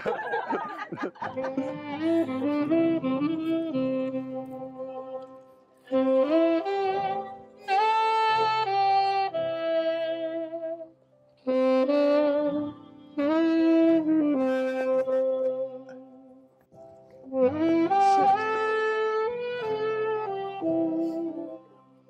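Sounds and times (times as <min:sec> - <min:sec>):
saxophone slow melody: 0:00.4 - 0:22.0.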